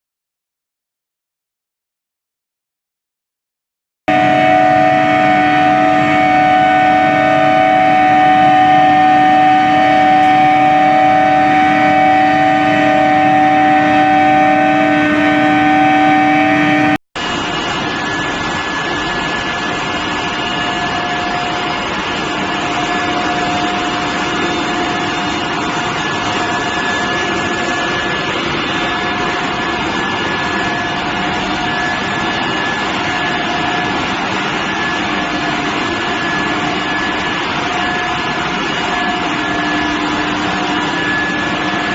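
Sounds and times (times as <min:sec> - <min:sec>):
induction furnace electrical hum: 0:04.1 - 0:41.9.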